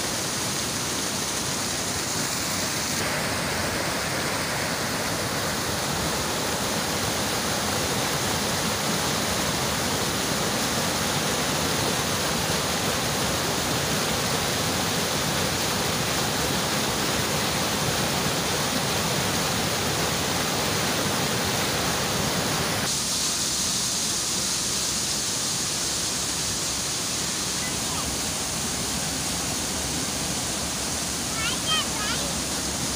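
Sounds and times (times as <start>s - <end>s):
stream rushing over rocks: 0.0s - 32.9s
thin hissy water rush: 0.0s - 32.9s.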